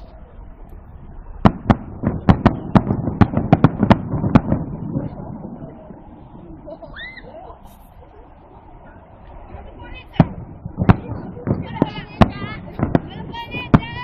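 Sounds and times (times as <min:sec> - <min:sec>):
fireworks bursting: 0:00.0 - 0:08.0, 0:09.3 - 0:14.0
rumble: 0:00.0 - 0:14.0.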